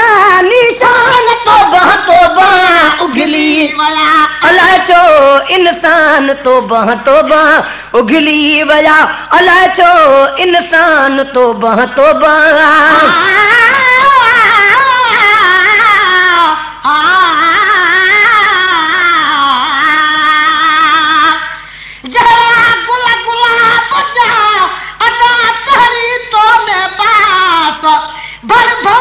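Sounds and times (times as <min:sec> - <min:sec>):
person singing devotional song: 0:00.0 - 0:29.0.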